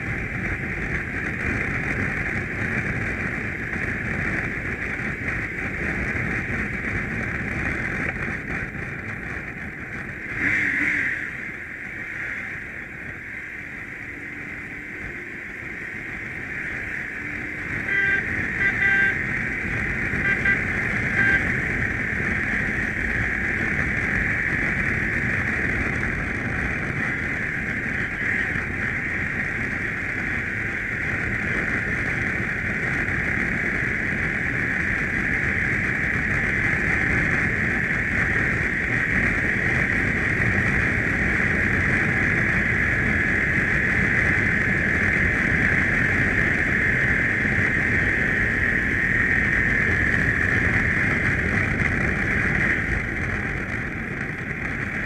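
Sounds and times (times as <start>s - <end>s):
motorcycle engine: 0.0s - 55.0s
wind noise: 0.0s - 55.0s.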